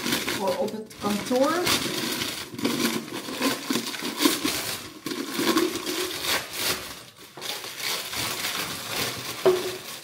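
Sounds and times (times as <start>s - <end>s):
packing paper rustling: 0.0s - 10.0s.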